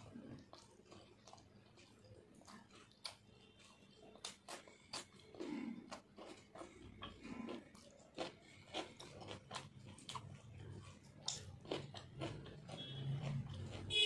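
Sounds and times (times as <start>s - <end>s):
wet chewing and lip smacks: 0.0s - 13.9s.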